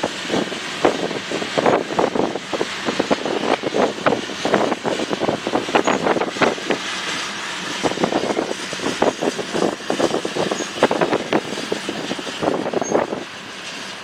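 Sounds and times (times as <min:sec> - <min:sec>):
train wheels clattering over rails: 0:00.0 - 0:14.0.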